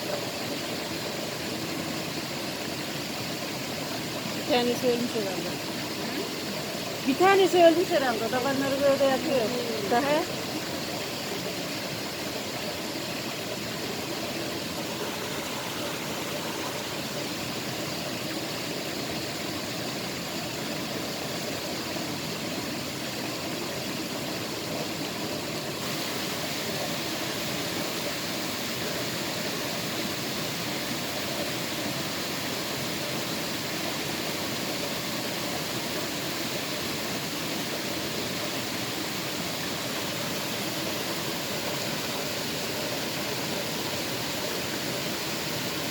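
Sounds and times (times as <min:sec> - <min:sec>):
running water rushing: 0:00.0 - 0:45.9.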